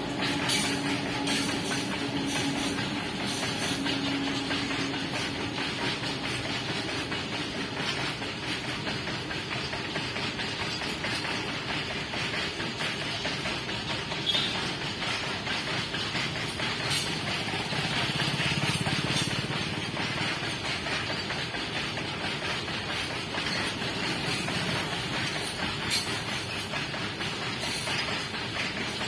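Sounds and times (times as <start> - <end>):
freight wagons rolling on track: 0.0 - 29.0.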